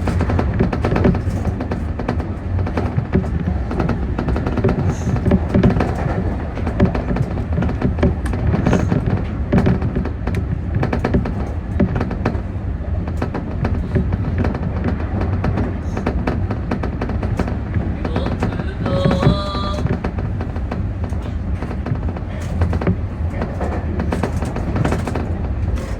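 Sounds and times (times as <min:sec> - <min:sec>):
train running along track: 0:00.0 - 0:25.9
wheels clicking on rails: 0:00.0 - 0:25.9.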